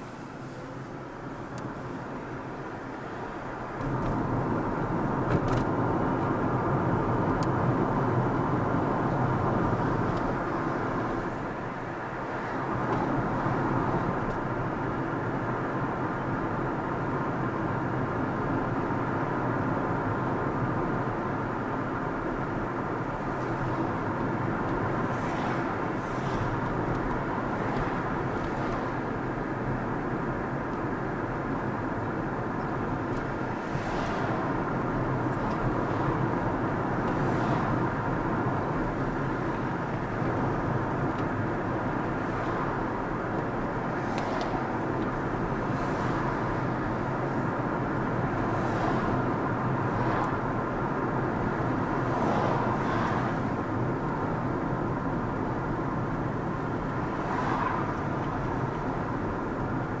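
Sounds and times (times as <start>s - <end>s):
car driving road noise: 0.0s - 60.0s.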